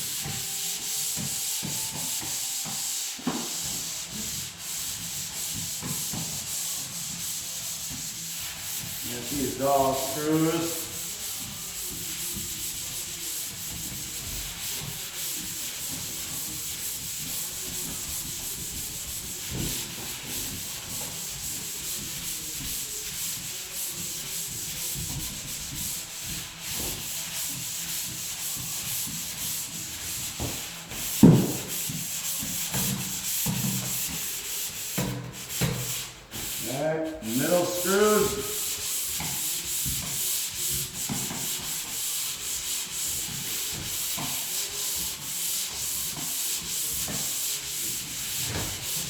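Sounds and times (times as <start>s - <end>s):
sanding scratchy rubbing strokes: 0.0s - 49.0s.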